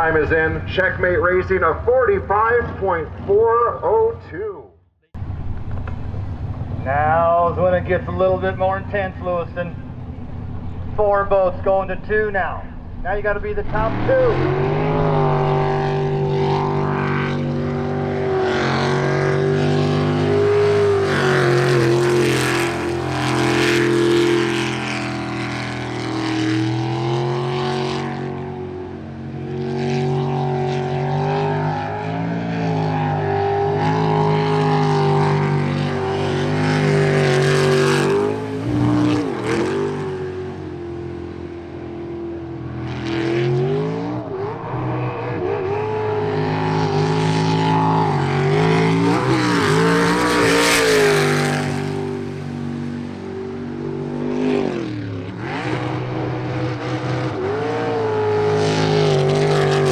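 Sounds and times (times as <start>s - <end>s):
jet boat engine running hard: 5.2s - 59.9s.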